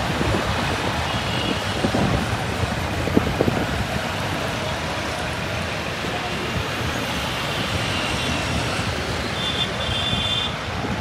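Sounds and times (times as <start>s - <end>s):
distant city traffic rumble: 0.0s - 11.0s.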